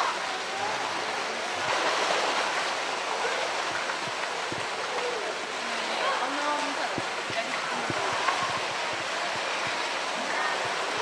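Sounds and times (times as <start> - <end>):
water lapping: 0.0 - 11.0
water rushing: 0.0 - 11.0.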